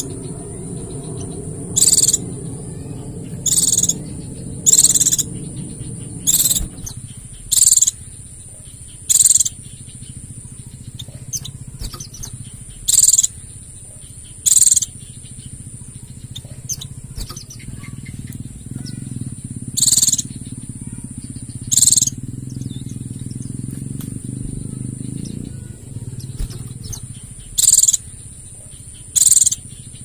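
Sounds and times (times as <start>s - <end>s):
high-pitched bird trills: 0.0s - 13.6s, 14.2s - 30.0s
bird twittering: 0.0s - 30.0s
low hum: 0.0s - 30.0s
steady high whine: 0.0s - 30.0s.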